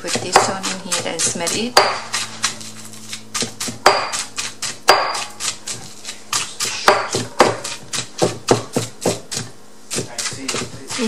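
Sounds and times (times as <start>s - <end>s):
stone pestle pounding in mortar: 0.0s - 11.0s.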